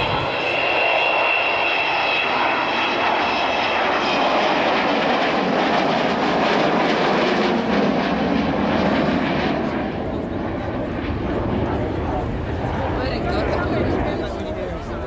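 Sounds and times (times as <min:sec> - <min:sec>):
jet bomber flying past: 0:00.0 - 0:15.0.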